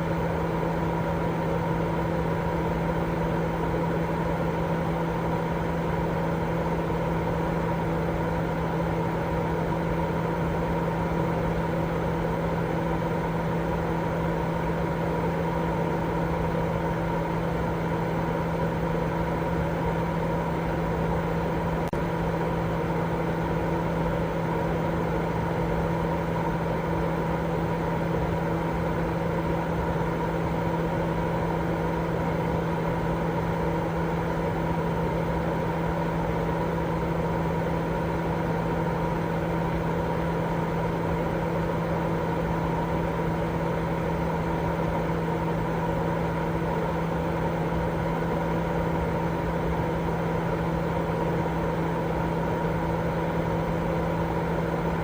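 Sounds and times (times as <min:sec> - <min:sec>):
low machine-like hum: 0:00.0 - 0:55.0.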